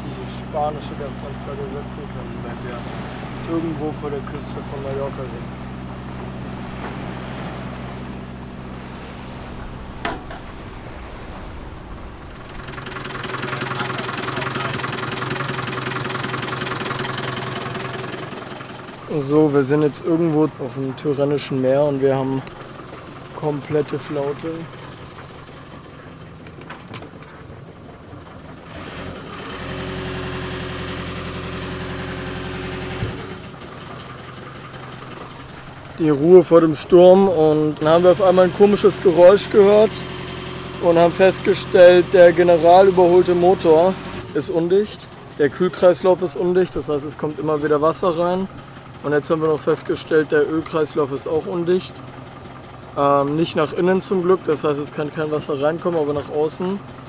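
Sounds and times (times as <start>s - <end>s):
boat engine humming: 0.0s - 57.0s.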